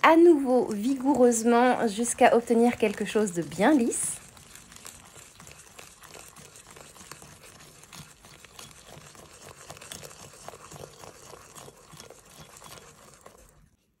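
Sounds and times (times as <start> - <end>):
wire whisk scraping in bowl: 0.8 - 14.0.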